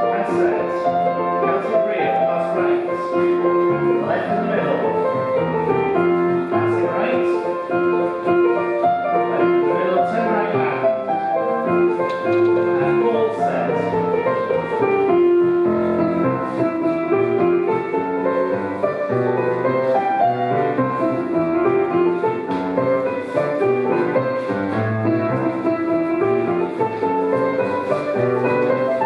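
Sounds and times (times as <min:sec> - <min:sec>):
piano playing a jig: 0:00.0 - 0:29.0.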